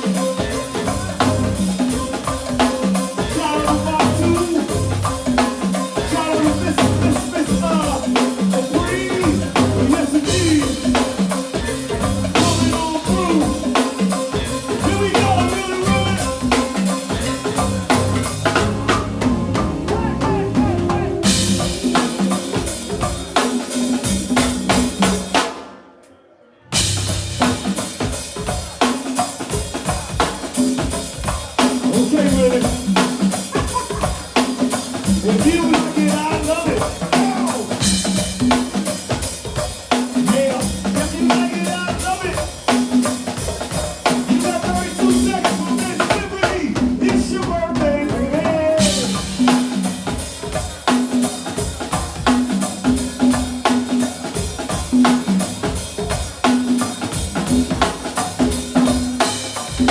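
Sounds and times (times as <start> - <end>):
live band music: 0.0 - 26.0, 26.8 - 59.9
drum kit beat with rimshots: 0.0 - 26.1, 26.7 - 59.9.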